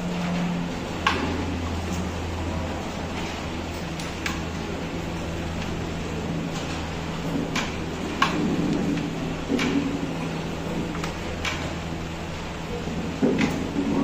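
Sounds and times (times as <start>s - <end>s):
steady low hum: 0.0s - 14.0s
murmur of low voices: 1.4s - 14.0s.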